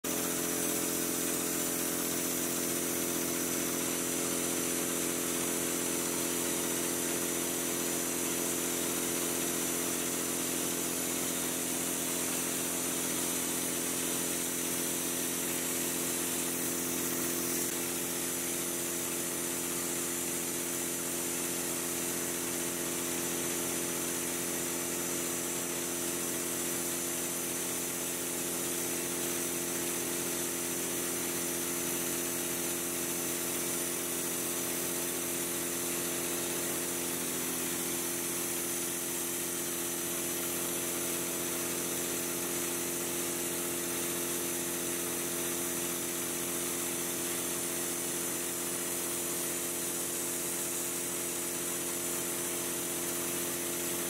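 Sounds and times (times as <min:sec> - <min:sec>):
air compressor droning: 0:00.0 - 0:54.0
compressed air hissing from spray gun: 0:00.1 - 0:54.0.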